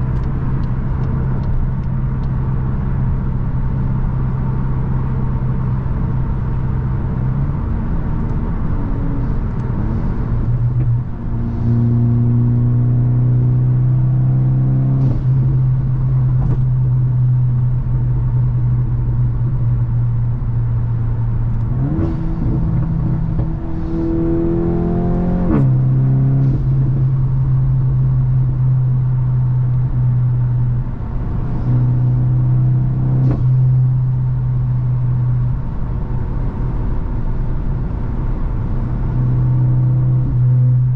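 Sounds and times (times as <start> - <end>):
car engine droning while driving: 0.0 - 40.9.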